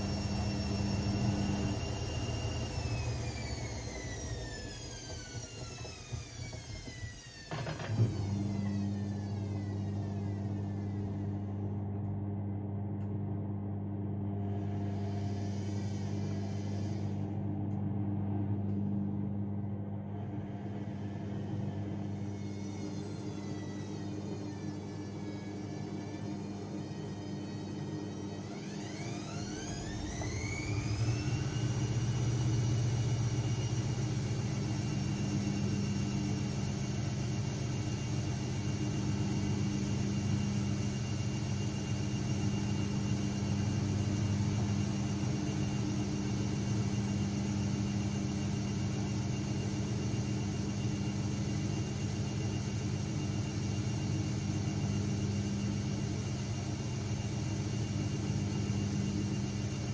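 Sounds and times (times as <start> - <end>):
washing machine drum spinning: 0.0 - 11.3, 20.7 - 59.9.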